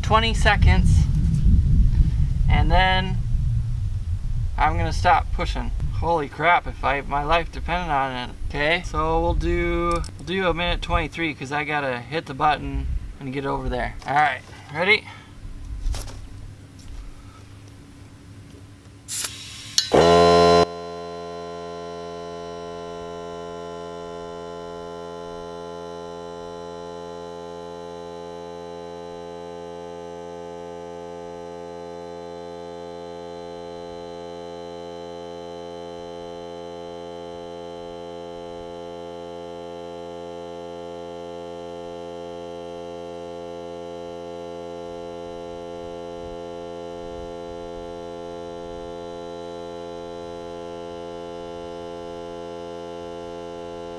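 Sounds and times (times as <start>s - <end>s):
air compressor humming: 0.0s - 53.9s.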